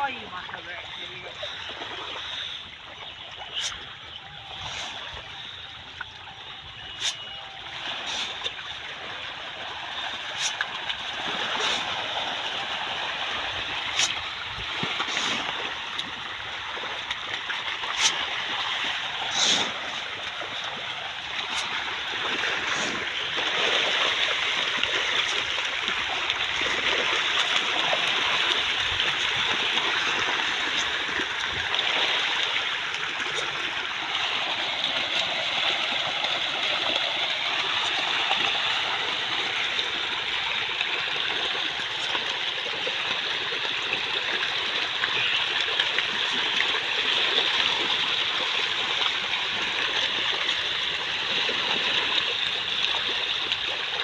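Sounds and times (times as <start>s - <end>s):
fish splashing at water surface: 0.0s - 54.0s.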